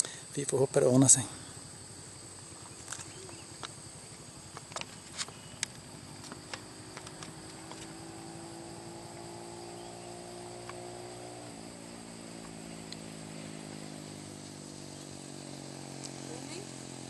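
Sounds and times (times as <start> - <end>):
high buzz of insects: 0.0 - 17.0
vehicle engine running: 0.8 - 17.0.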